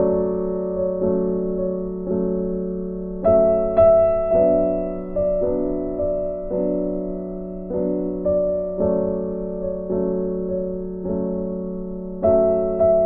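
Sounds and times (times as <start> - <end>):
slow soft piano music: 0.0 - 13.0.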